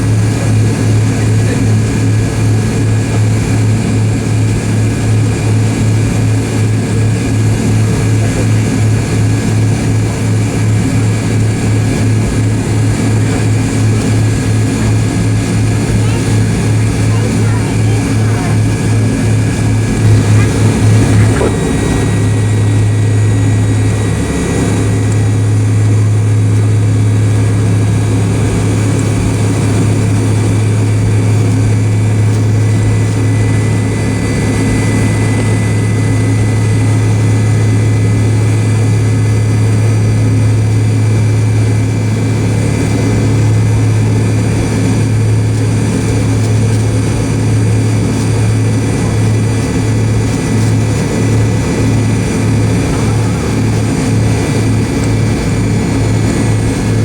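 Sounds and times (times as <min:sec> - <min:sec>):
airliner cabin drone: 0:00.0 - 0:57.0
high-pitched turbine whine: 0:00.1 - 0:42.4, 0:48.6 - 0:57.0.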